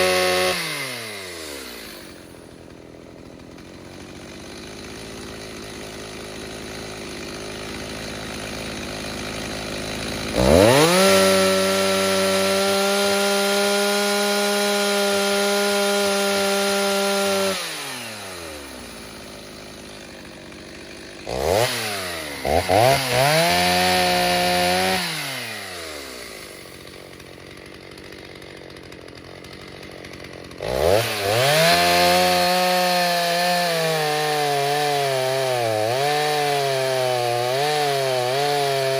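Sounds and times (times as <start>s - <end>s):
chainsaw idling and revving: 0.0s - 38.9s
chainsaw throttle blips: 0.0s - 38.9s.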